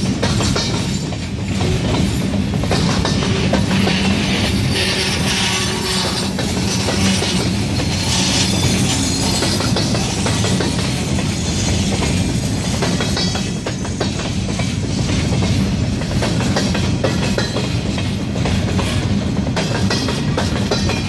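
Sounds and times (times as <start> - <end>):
train wheels rumbling on rails: 0.0 - 21.0
wheels clacking over rail joints: 0.0 - 21.0.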